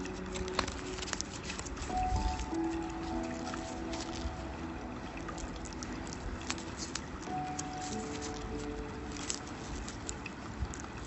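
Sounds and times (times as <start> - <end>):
scissors snipping paper: 0.0 - 4.6, 5.2 - 11.0
background music with held notes: 0.0 - 11.0.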